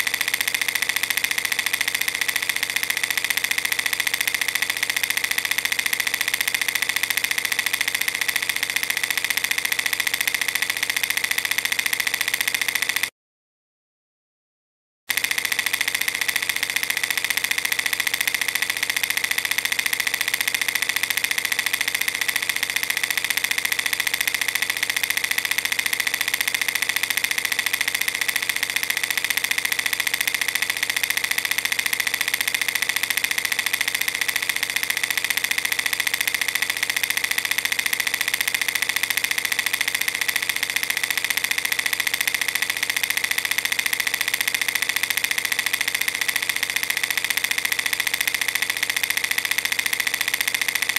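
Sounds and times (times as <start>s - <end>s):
film projector clatter and whir: 0.0s - 13.1s, 15.1s - 50.9s.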